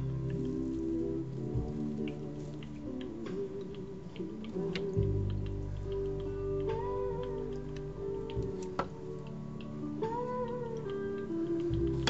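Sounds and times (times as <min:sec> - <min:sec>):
song in background: 0:00.0 - 0:12.0.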